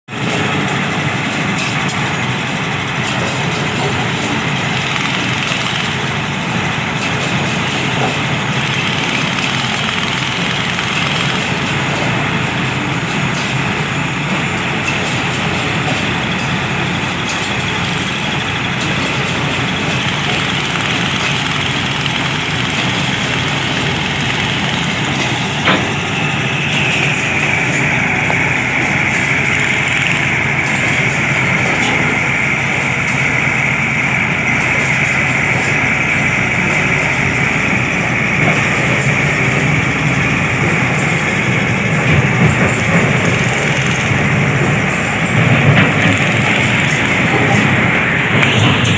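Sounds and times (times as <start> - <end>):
heavy machine engine running: 0.1 - 48.9.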